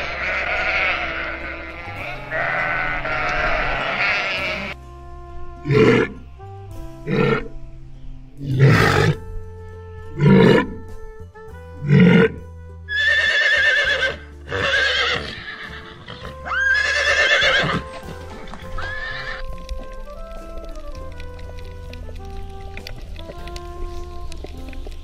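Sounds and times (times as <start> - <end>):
horses neighing: 0.0 - 4.8, 5.6 - 6.3, 7.0 - 7.6, 8.4 - 9.2, 10.1 - 11.0, 11.8 - 25.0
walrus calling: 0.0 - 9.3, 10.0 - 11.0, 11.8 - 25.0
background music: 0.0 - 25.0.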